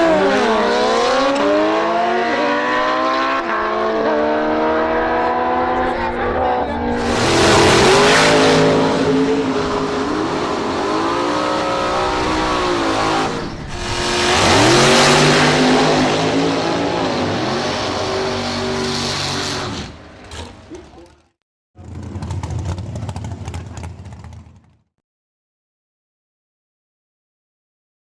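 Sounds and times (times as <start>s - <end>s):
drag race car engines accelerating: 0.0s - 24.8s.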